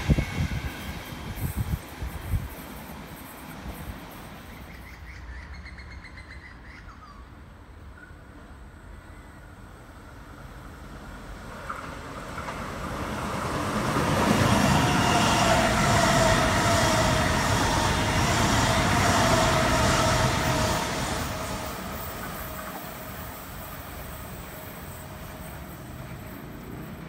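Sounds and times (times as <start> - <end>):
electric train passing: 0.0 - 27.0
train whine: 0.0 - 27.0.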